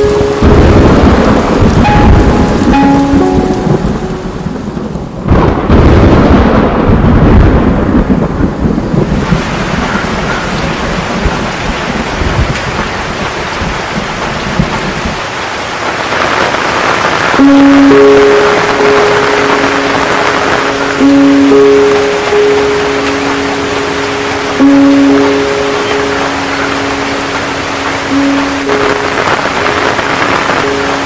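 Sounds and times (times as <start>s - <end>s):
heavy rain: 0.0s - 31.0s
thunder rumbling: 0.0s - 31.0s.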